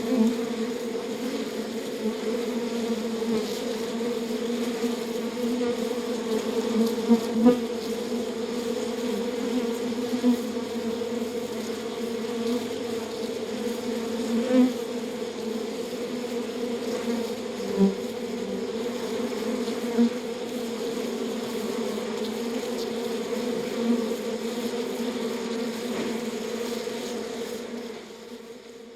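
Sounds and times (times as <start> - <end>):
bees buzzing: 0.0 - 28.6
single bee buzzing past: 0.0 - 28.9.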